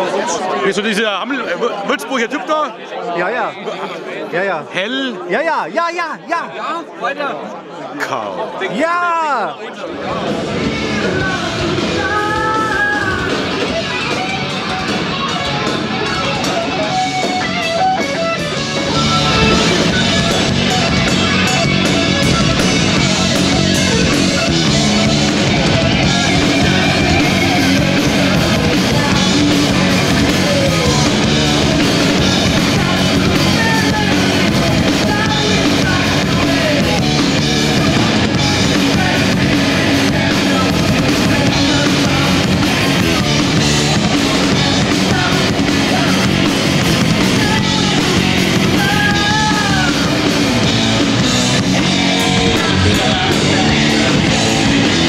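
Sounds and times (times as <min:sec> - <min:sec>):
heavy metal band playing live: 0:10.2 - 0:55.0.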